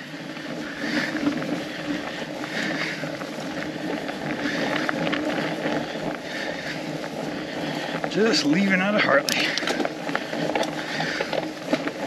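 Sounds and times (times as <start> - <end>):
bike tyres rolling on frozen snow: 0.0 - 12.0.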